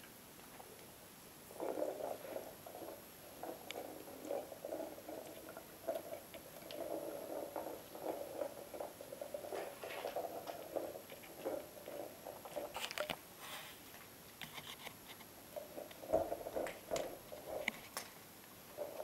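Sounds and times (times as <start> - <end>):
ball rolling over floor: 1.4 - 13.9, 15.2 - 19.0.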